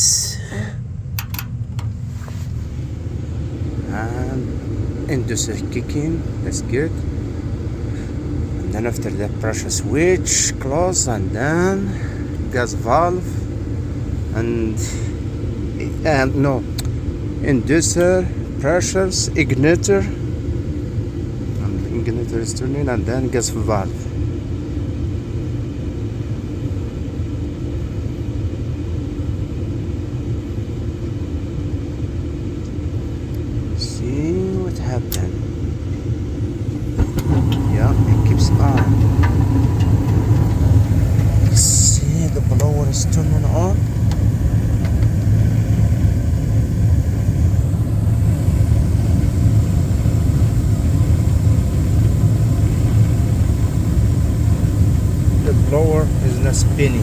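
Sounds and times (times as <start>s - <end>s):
furnace inducer motor humming: 0.0s - 28.6s, 30.4s - 57.0s
gas burners rumbling: 0.0s - 57.0s.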